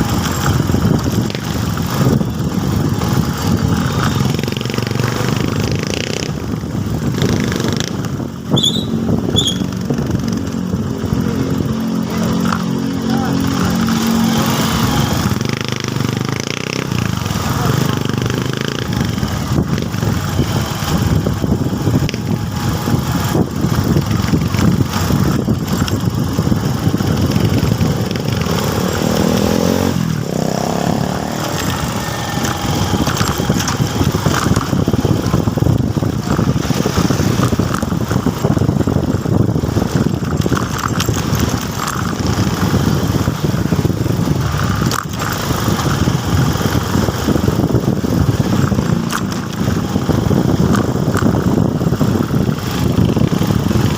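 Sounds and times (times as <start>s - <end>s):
motorcycle engine running: 0.0s - 53.9s
road rumble: 0.0s - 53.9s.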